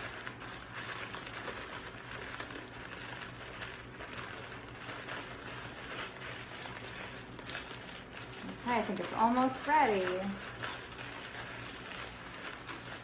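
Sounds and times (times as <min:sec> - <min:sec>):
crackers crunching: 0:00.0 - 0:13.0
plastic bag crinkling: 0:00.0 - 0:13.0.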